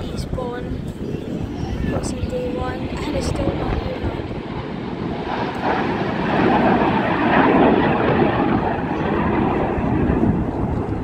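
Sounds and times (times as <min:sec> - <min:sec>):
jet passing by: 0:00.0 - 0:11.0.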